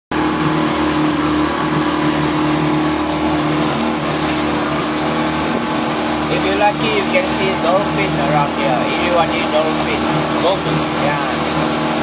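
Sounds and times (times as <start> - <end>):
motorboat engine droning: 0.1 - 12.0
water rushing past hull: 0.1 - 12.0.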